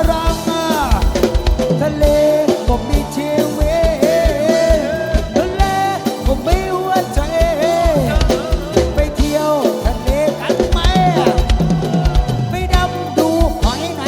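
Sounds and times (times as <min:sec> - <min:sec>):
drum kit beat: 0:00.0 - 0:14.0
live band playing: 0:00.0 - 0:14.0
sliding melody line: 0:00.2 - 0:14.0.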